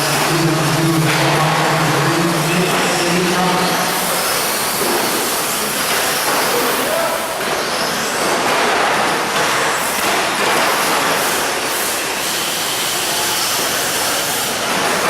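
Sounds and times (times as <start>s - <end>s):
toy trucks racing: 0.0s - 15.0s.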